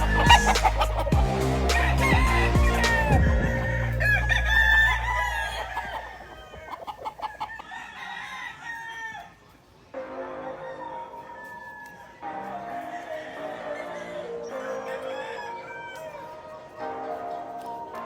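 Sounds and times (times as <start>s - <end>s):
rooster crowing: 0.0s - 9.4s, 10.4s - 16.6s
chickens clucking: 0.0s - 18.0s.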